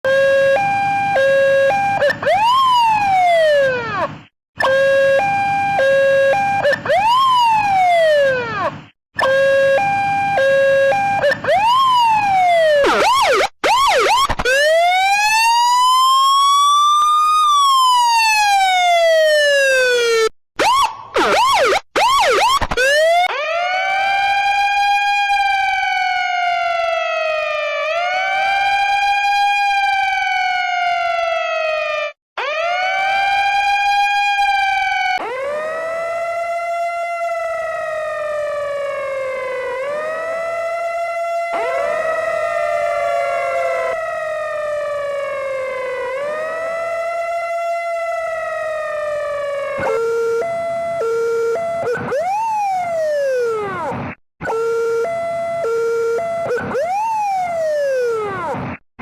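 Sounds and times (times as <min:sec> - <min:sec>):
siren wailing: 0:00.0 - 0:58.8
siren whooping: 0:00.0 - 0:58.8
siren yelping: 0:00.0 - 0:58.8
two-tone siren: 0:00.0 - 0:58.8.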